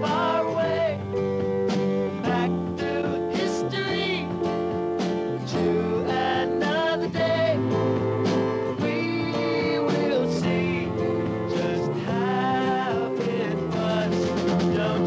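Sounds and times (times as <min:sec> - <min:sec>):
person singing: 0:00.0 - 0:01.4, 0:02.1 - 0:04.6, 0:05.4 - 0:15.0
band song with guitar: 0:00.0 - 0:15.0.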